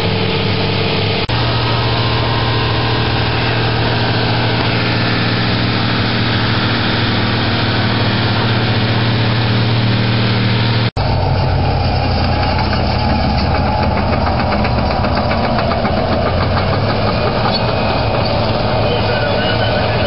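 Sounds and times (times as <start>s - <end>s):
diesel engine running: 0.0s - 20.0s
engine with fast ticking clatter: 0.0s - 20.0s.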